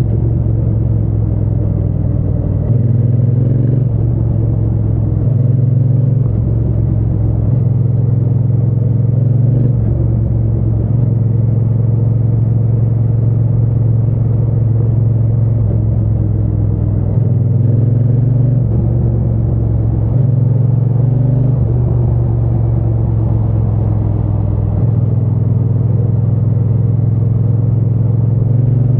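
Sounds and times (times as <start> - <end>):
motorcycle engine droning: 0.0 - 28.9.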